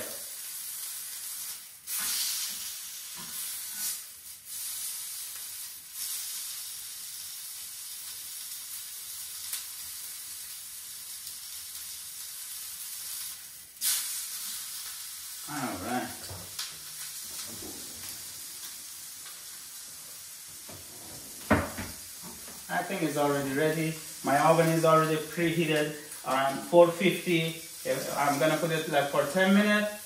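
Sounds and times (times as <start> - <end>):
fat sizzling in a hot pan: 0.0 - 30.0.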